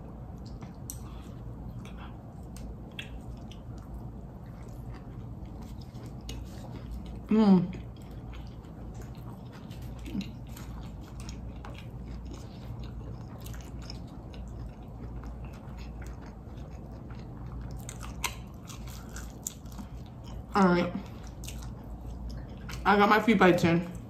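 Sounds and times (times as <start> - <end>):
chewing crispy food: 0.1 - 23.0.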